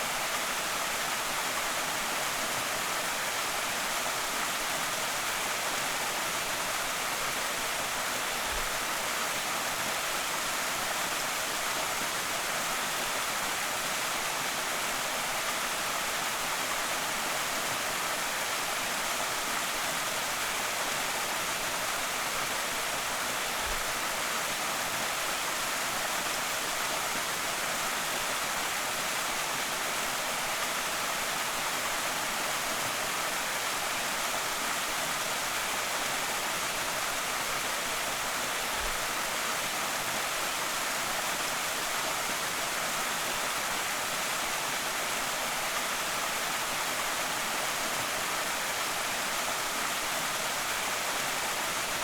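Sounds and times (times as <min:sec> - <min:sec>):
waterfall pouring and splashing: 0:00.0 - 0:52.0.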